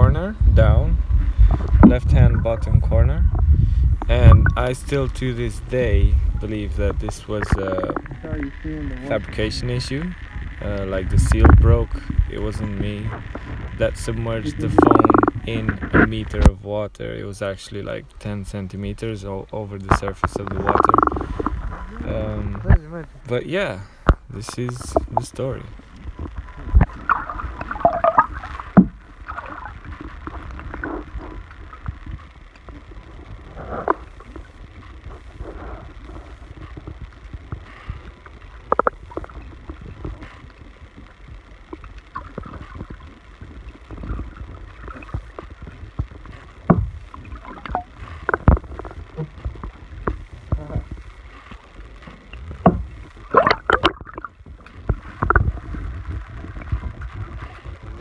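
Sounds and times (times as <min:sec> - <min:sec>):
knocks and gurgles: 0:00.0 - 0:06.0, 0:06.7 - 0:16.6, 0:19.8 - 0:22.9, 0:24.0 - 0:58.0
muffled underwater rumble: 0:00.0 - 0:58.0.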